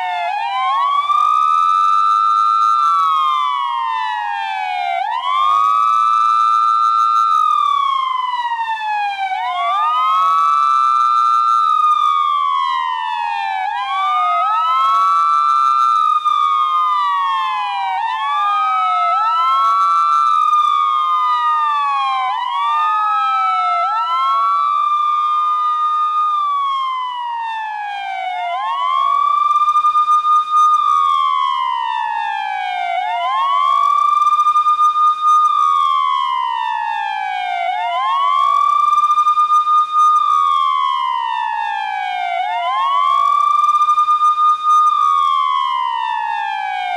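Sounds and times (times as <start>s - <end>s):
police siren wailing: 0.0s - 46.9s.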